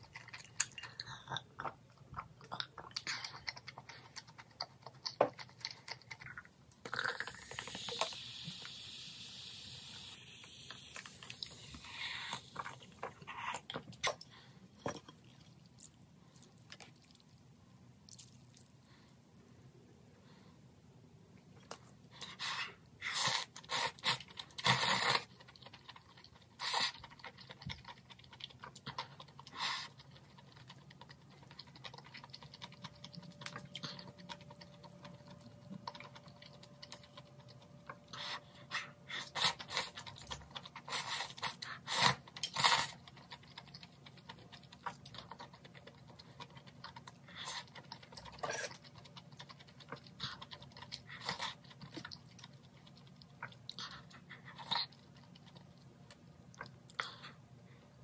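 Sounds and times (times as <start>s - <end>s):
chewing: 0.0s - 8.8s, 10.4s - 19.2s, 21.6s - 57.6s.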